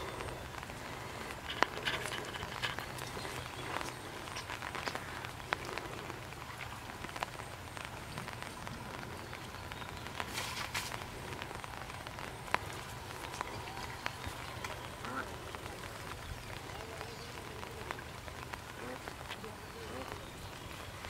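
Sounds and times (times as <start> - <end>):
light rain pattering on water: 0.0 - 21.0.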